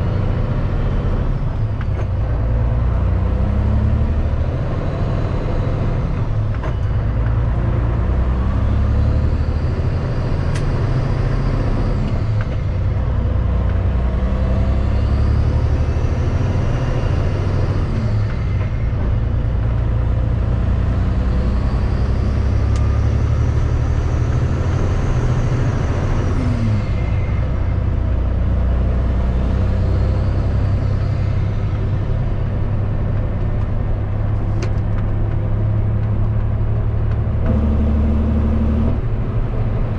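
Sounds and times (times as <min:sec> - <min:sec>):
engine whine: 0:00.0 - 0:39.9
truck diesel engine drone: 0:00.0 - 0:39.9.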